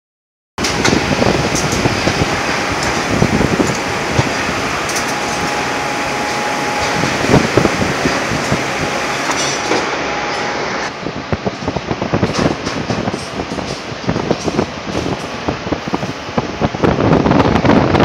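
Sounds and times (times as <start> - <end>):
metallic knocks and clatter: 0.6 - 10.5, 11.5 - 16.2
heavy machinery rumble: 0.6 - 18.0.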